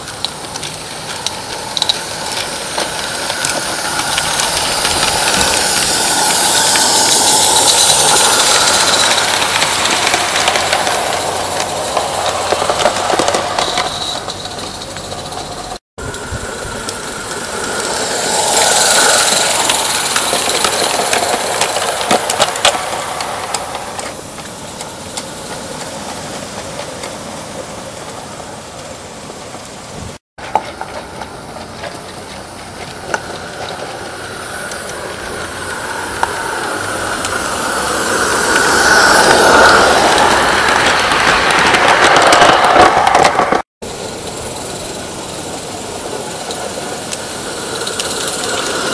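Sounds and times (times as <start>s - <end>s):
steam locomotive exhaust beats: 0.0s - 48.9s
train wheels rolling on track: 0.0s - 48.9s.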